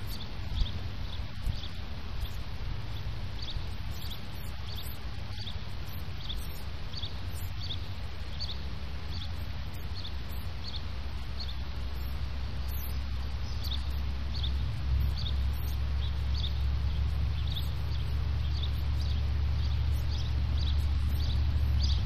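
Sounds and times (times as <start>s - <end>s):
faint high chirp: 0.0s - 22.0s
low rumble: 0.0s - 22.0s.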